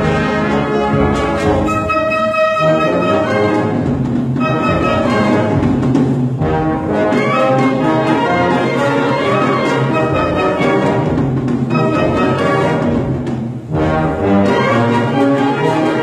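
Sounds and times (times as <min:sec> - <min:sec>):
brass: 0:00.0 - 0:16.0
wind band playing: 0:00.0 - 0:16.0.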